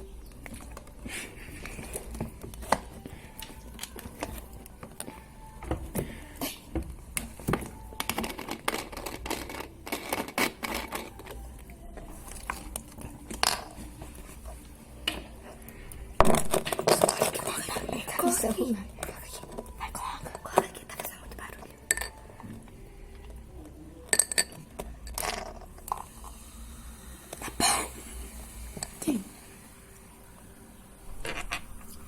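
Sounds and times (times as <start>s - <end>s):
clicks and crackles of squeezing: 0.0s - 26.3s.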